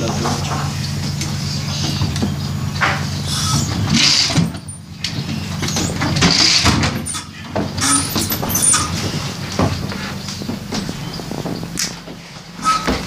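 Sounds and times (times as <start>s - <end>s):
hand truck rattling and clattering: 0.0s - 13.0s.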